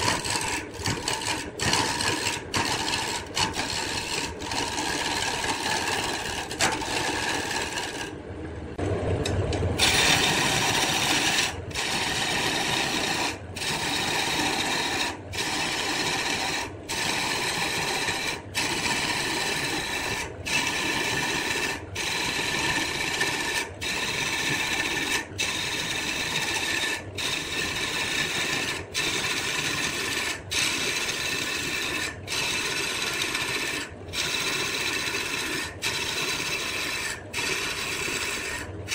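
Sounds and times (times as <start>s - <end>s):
wood scraping on lathe: 0.0s - 8.2s, 9.8s - 38.9s.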